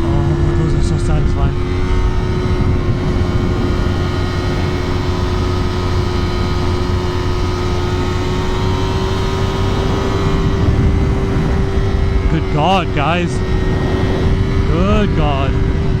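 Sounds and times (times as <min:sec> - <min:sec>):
motorcycle engine running: 0:00.0 - 0:16.0
wind rush: 0:00.0 - 0:16.0.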